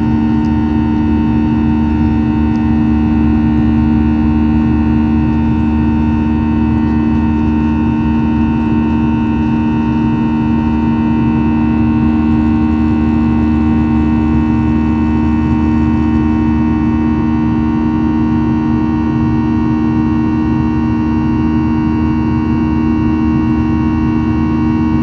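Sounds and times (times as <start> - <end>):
high steady whines: 0.0 - 25.0
jet engines running: 0.0 - 25.0
two-tone drone: 0.0 - 25.0.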